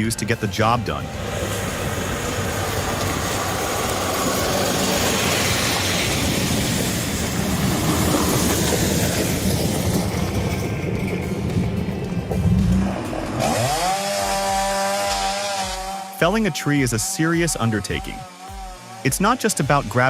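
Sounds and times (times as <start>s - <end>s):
heavy machinery engine drone: 0.0s - 20.0s.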